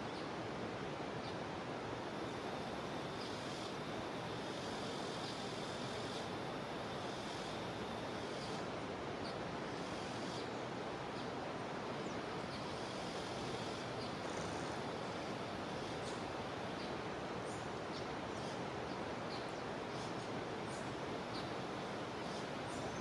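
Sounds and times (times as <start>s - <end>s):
high chirps of insects or birds: 1.1s - 23.0s.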